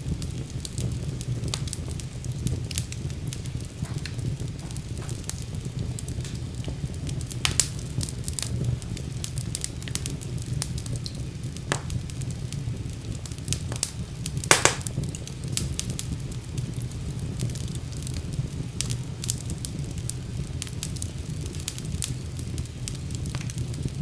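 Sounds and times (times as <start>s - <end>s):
fire crackling and popping: 0.0s - 24.0s
fire rumbling in fireplace: 0.0s - 24.0s.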